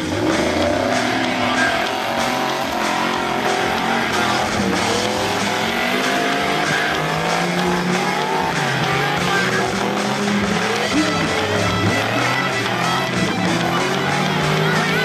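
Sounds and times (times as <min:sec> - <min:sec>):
engines revving: 0:00.0 - 0:15.0
music playing: 0:00.0 - 0:15.0.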